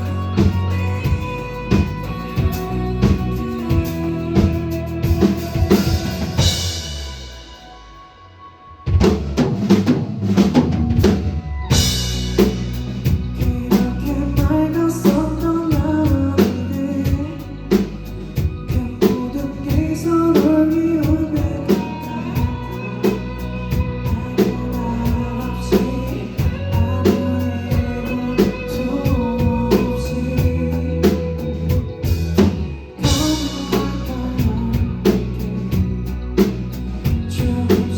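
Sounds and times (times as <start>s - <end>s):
person singing: 0.0s - 7.8s, 11.3s - 37.9s
pop-rock music with drums: 0.0s - 37.9s.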